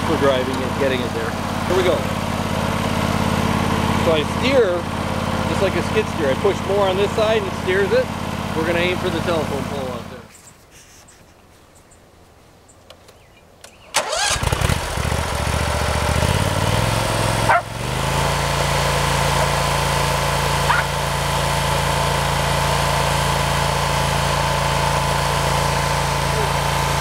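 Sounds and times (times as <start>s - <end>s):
gas engine revving up: 0.0s - 10.2s, 14.0s - 27.0s.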